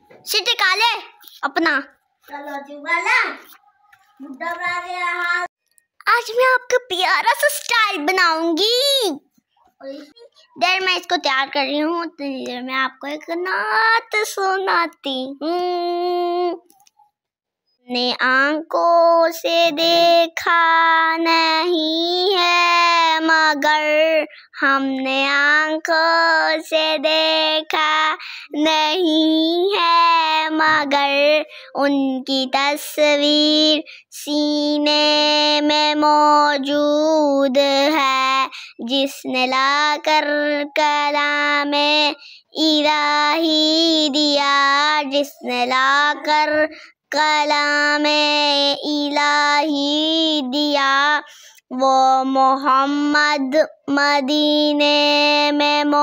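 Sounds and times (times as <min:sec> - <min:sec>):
girl singing devotional song: 0:00.0 - 0:56.0.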